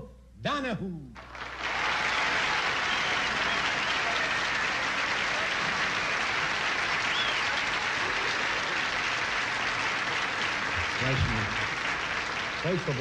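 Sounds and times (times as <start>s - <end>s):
audience applauding: 1.2s - 13.0s.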